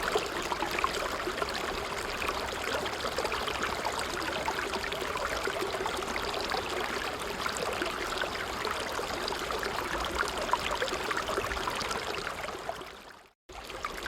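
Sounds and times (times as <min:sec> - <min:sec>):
babbling stream: 0:00.0 - 0:14.0.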